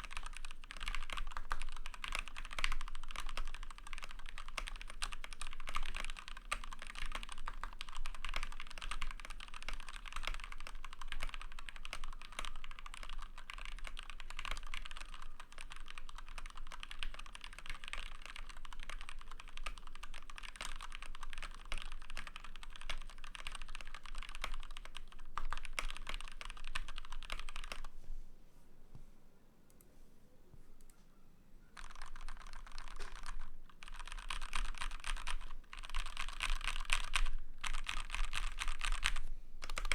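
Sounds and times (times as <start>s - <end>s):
mechanical keyboard typing: 0.0s - 27.9s, 31.8s - 39.9s.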